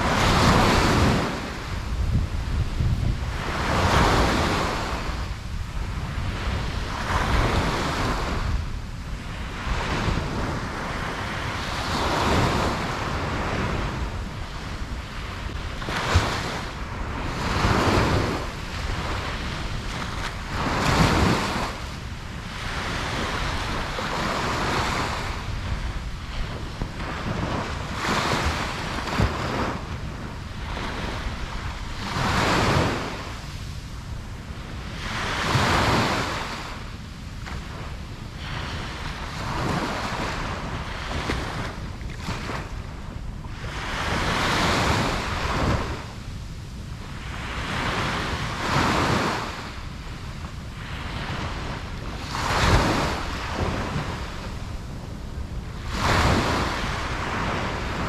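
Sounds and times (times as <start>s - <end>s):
ocean waves breaking: 0.0s - 58.0s
wind on microphone: 0.0s - 58.0s.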